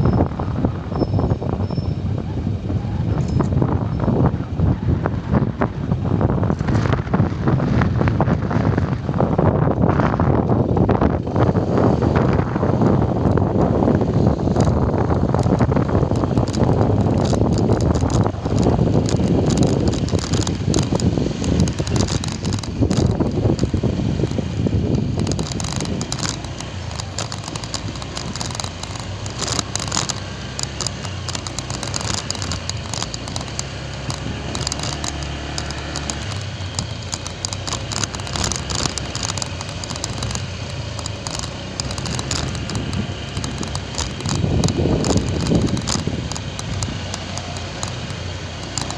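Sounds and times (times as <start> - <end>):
motorcycle engine running: 0.0 - 48.9
wind rumble on microphone: 0.0 - 48.9
tyres crackling on gravel: 3.4 - 48.9.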